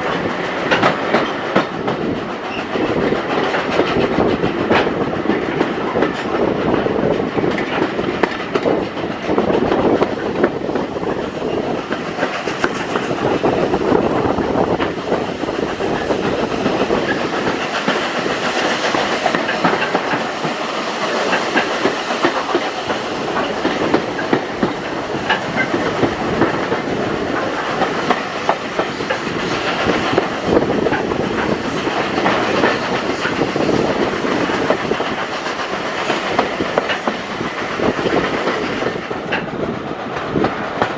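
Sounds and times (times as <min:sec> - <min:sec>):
clickety-clack of rail joints: 0:00.0 - 0:40.9
rumble of train wheels on track: 0:00.0 - 0:40.9.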